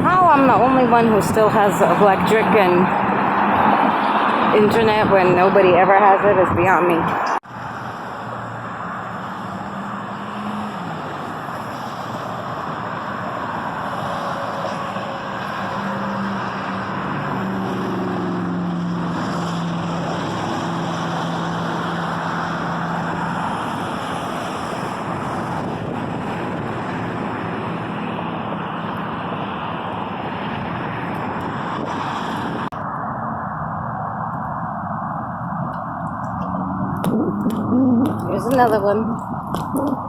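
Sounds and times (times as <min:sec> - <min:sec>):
car wind and road noise: 0:00.0 - 0:40.0
low engine hum: 0:00.0 - 0:40.0.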